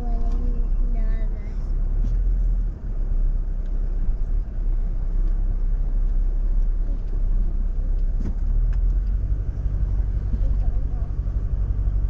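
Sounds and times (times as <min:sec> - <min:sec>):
vehicle driving over rough track: 0:00.0 - 0:12.0.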